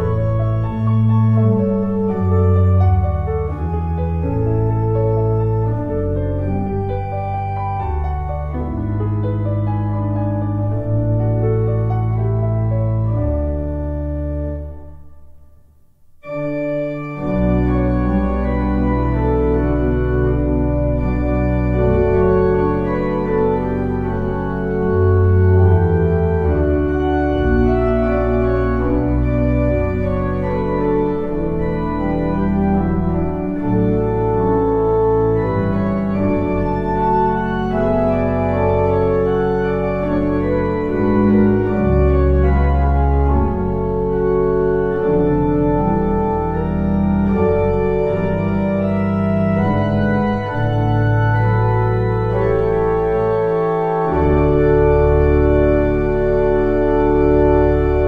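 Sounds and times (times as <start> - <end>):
organ playing a hymn: 0.0 - 15.4, 16.2 - 58.0.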